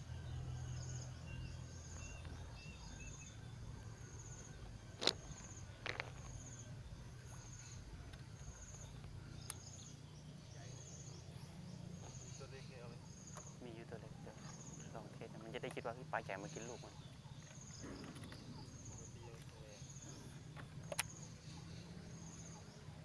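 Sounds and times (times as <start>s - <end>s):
insect trilling: 0.0s - 23.0s
low steady hum: 0.0s - 23.0s.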